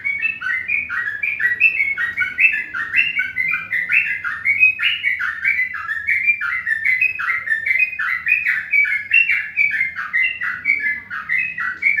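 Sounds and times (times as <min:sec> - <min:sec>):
bird chirping rapidly: 0:00.0 - 0:12.0.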